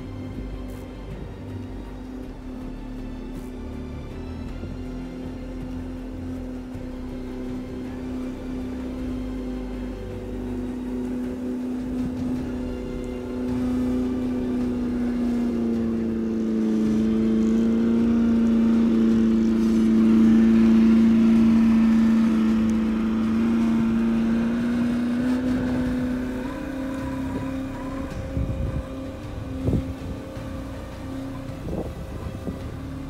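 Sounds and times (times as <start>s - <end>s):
electric motor whining: 0.0s - 33.0s.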